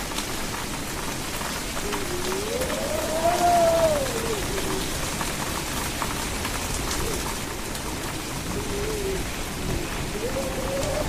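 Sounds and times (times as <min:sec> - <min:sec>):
faint wind howl: 0:00.0 - 0:11.0
heavy rain falling: 0:00.0 - 0:11.0.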